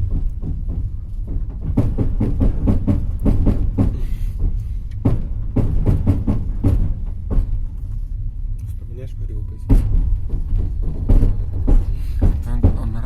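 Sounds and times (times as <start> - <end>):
train rumbling: 0.0 - 13.0
wheels clattering over rail joints: 0.0 - 13.0.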